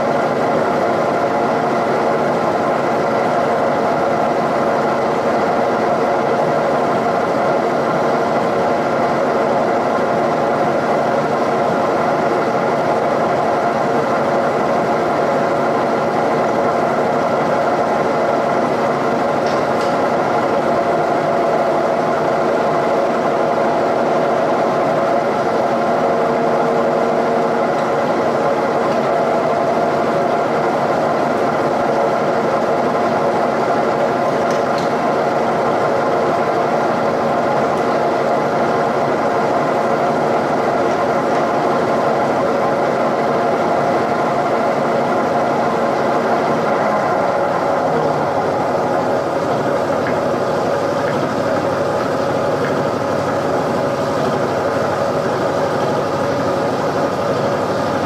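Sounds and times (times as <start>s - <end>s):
milling machine running: 0.0s - 58.0s.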